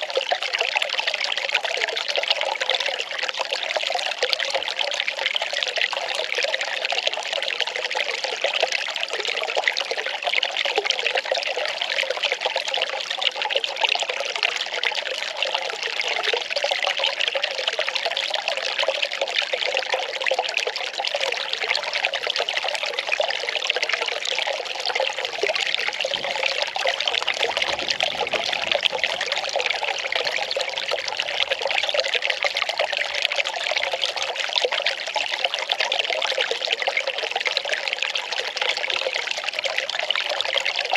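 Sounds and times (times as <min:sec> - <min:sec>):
water pouring and trickling: 0:00.0 - 0:40.9.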